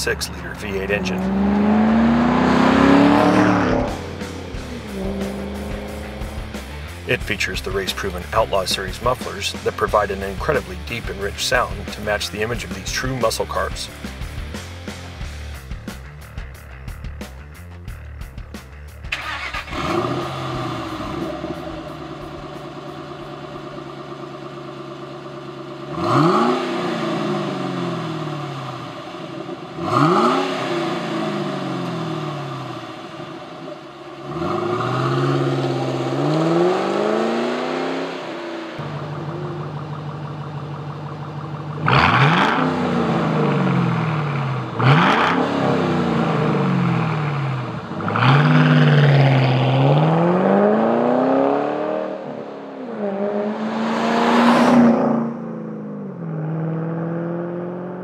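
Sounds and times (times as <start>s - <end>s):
car engine idling: 0.0s - 53.5s
car engine revving: 0.0s - 58.0s.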